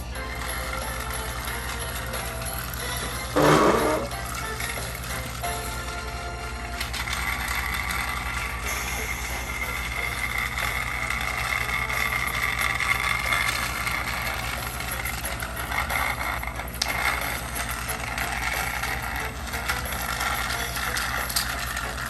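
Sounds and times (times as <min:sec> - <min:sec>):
toy train whirring and rattling: 0:00.0 - 0:22.0.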